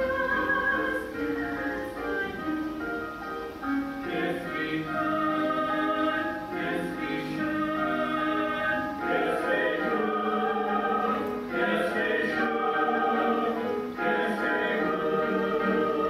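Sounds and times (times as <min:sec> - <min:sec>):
choir singing held chords: 0:00.0 - 0:02.7, 0:03.6 - 0:16.0.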